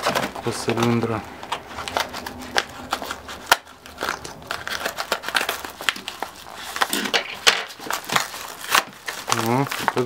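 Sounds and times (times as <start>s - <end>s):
stiff paper crinkling: 0.0s - 10.0s
scissors snipping paper: 1.8s - 10.0s.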